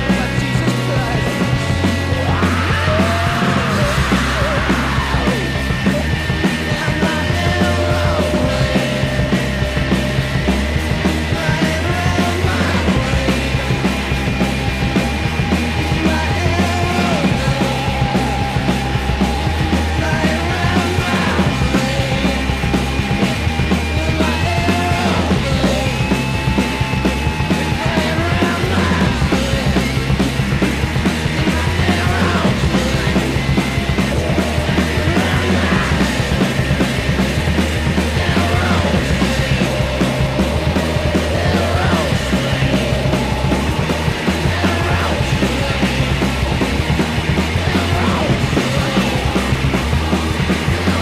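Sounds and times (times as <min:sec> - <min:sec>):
punk rock band playing: 0:00.0 - 0:51.0.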